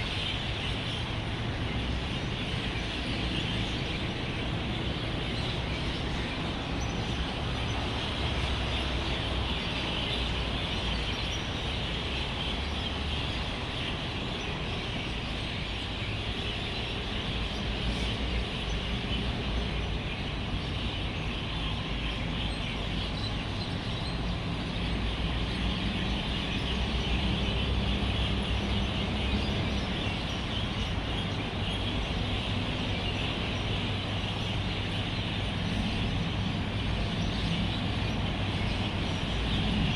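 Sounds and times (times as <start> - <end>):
flock of birds chattering: 0.0 - 39.9
road traffic rumble: 0.0 - 39.9.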